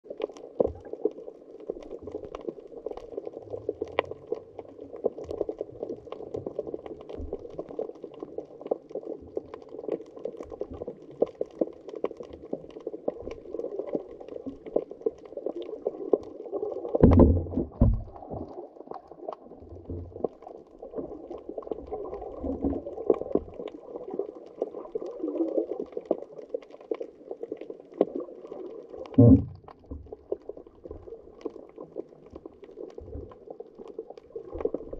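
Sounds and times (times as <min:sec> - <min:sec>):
faint clicks and crackles: 0:00.0 - 0:34.9
muffled underwater water noise: 0:00.0 - 0:34.9.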